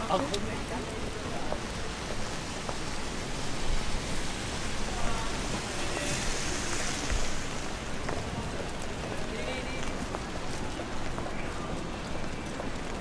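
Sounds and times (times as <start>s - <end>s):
faint voices of passers-by: 0.0s - 13.0s
rain on a street: 0.0s - 13.0s.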